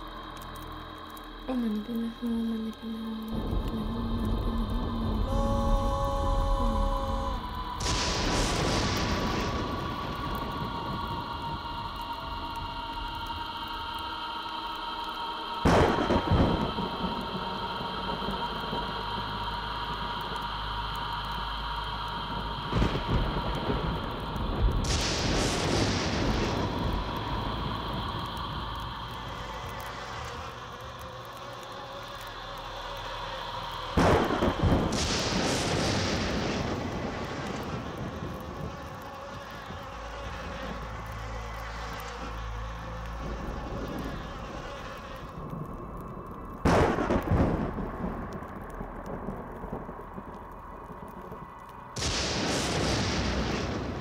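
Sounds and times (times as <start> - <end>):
droning background with held tones: 0.0 - 54.0
low hum: 0.0 - 54.0
thunderclap and rumble: 3.3 - 13.4, 15.6 - 20.5, 22.2 - 32.3, 33.8 - 54.0
rushing hiss: 3.4 - 54.0.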